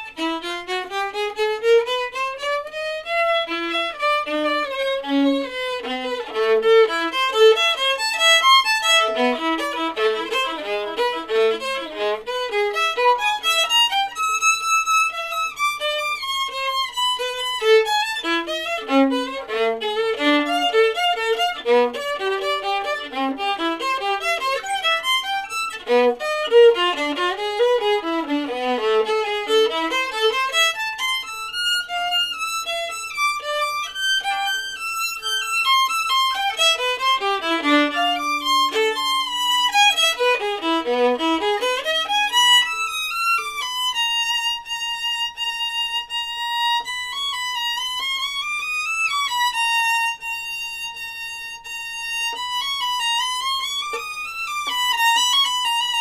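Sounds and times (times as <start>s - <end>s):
solo violin melody: 0.0s - 56.0s.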